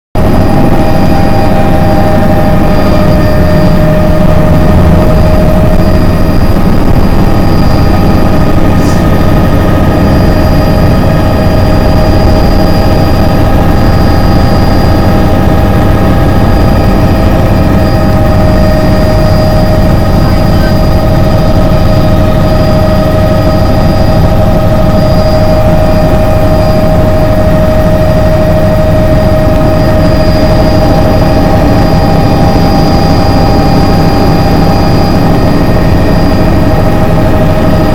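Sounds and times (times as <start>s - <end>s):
helicopter engine and rotor rumble: 0.2s - 37.9s
high whine: 0.2s - 37.9s.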